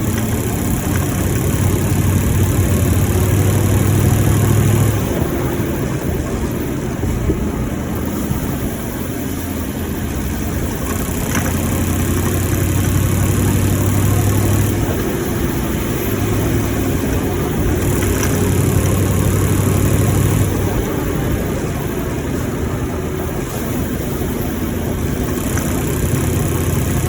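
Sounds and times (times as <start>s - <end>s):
engine humming while driving: 0.0s - 27.0s.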